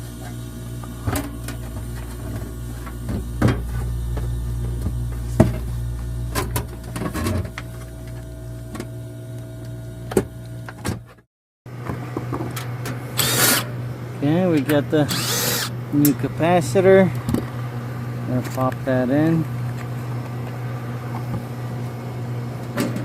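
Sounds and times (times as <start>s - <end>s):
refrigeration equipment humming: 0.0s - 23.0s.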